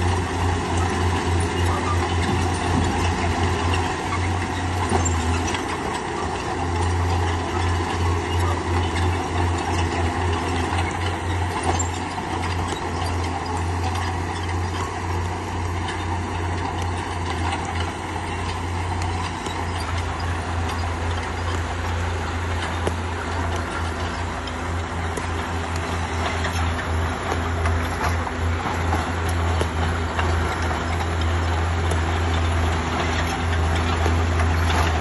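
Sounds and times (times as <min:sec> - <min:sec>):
diesel engine drone: 0:00.0 - 0:35.0
metal clanks and clicks: 0:00.0 - 0:35.0.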